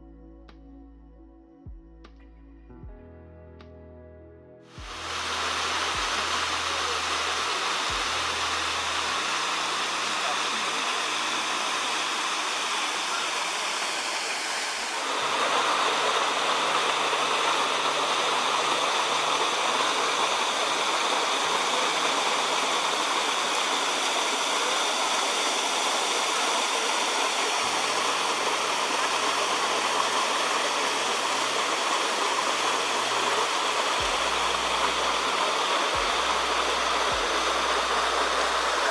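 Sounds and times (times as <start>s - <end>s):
waterfall roaring: 4.8s - 38.9s.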